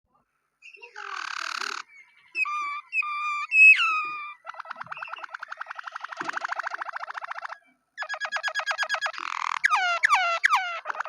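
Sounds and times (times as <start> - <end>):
canary singing: 0.6 - 11.0.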